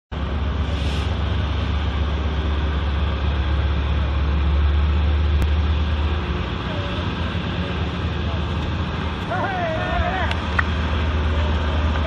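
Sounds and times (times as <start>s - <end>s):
heavy engines droning: 0.1s - 12.0s.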